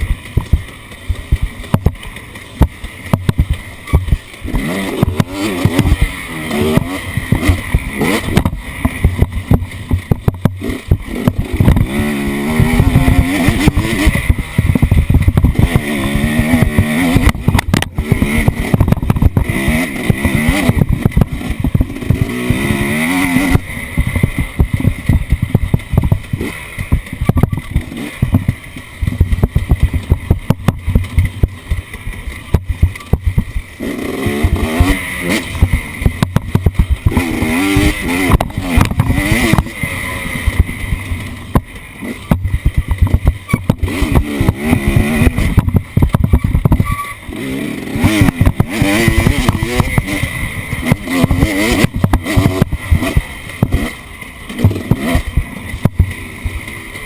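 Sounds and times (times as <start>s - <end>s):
off-road vehicle engine revving: 0.0s - 57.0s
sharp knocks and rattles: 0.0s - 57.0s.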